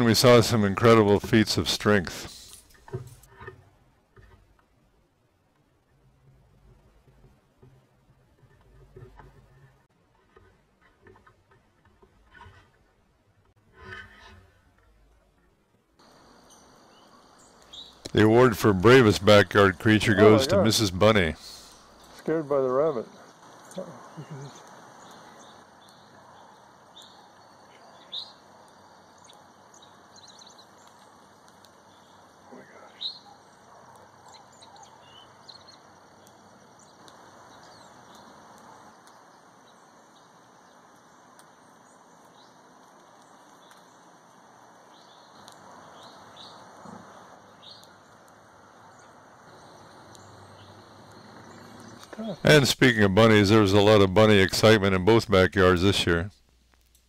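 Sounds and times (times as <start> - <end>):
birds chirping: 0.0 - 4.8, 13.9 - 56.3
faint outdoor hiss: 0.0 - 57.0.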